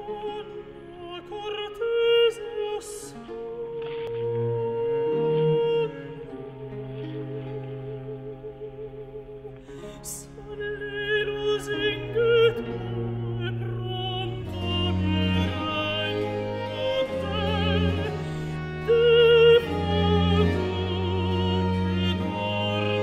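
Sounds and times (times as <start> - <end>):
operatic singing voice: 0.0 - 23.0.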